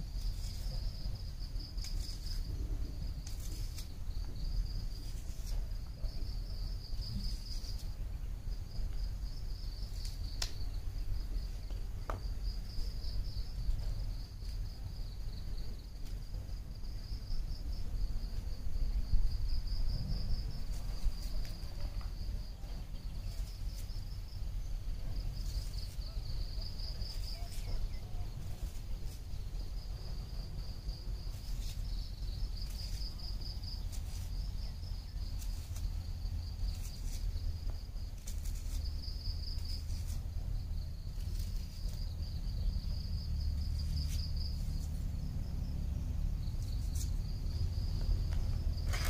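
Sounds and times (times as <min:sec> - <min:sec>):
insects chirring: 0:00.0 - 0:49.0
low steady rumble: 0:00.0 - 0:49.0.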